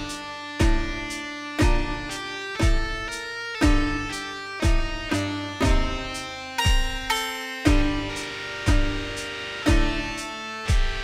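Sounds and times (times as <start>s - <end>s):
strong low beat: 0.0s - 11.0s
sustained synth notes: 0.0s - 11.0s.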